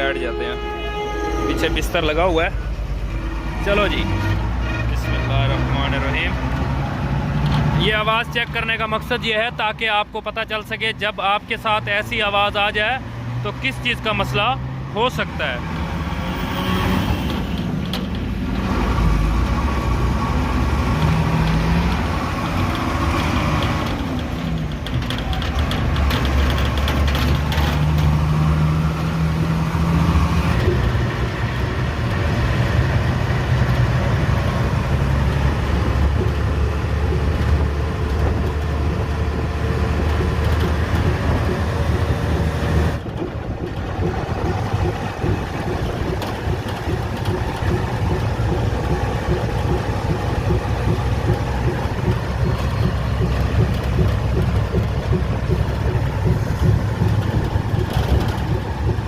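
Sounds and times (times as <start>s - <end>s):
diesel truck engine running: 0.0s - 59.0s
abnormal engine noise: 11.5s - 59.0s.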